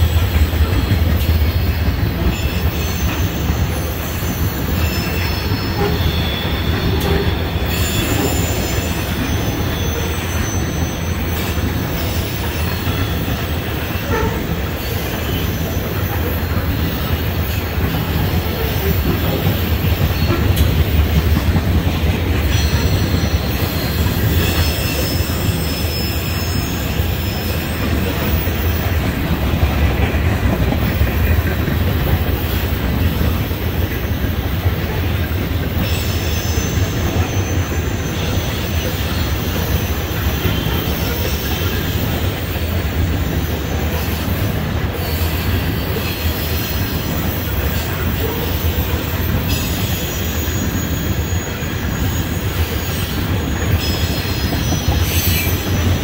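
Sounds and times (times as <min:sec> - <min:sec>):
faint high wheel squeal: 0:00.0 - 0:56.0
train wheels rumbling on rails: 0:00.0 - 0:56.0.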